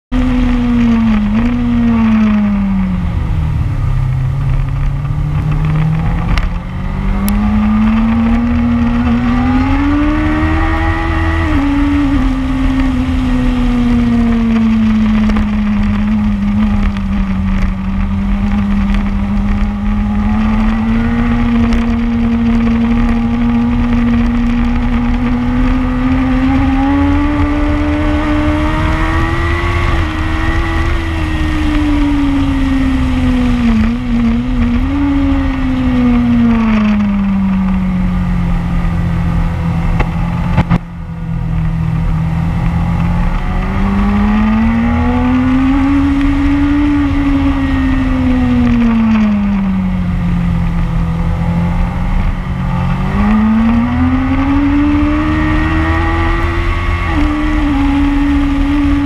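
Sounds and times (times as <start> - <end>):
motorcycle engine revving: 0.0 - 59.0
wind buffeting microphone: 0.2 - 59.0.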